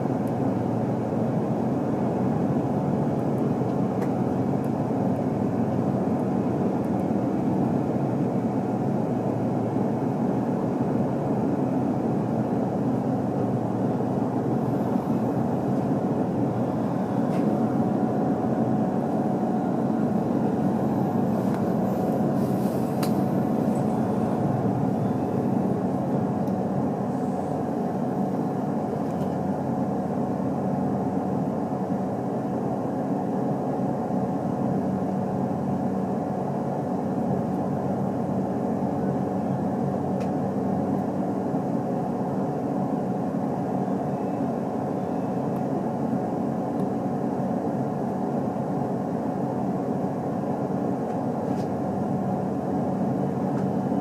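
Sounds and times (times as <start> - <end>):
train interior hum: 0.0 - 54.0.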